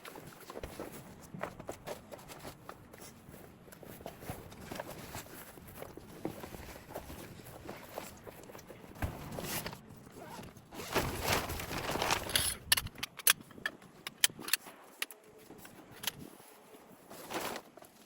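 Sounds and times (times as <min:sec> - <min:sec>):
rustling of camping gear: 0:00.0 - 0:18.0.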